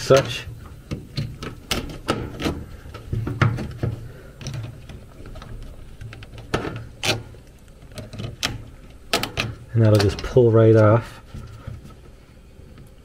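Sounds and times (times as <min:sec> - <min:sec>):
handling noise: 0:00.0 - 0:13.0.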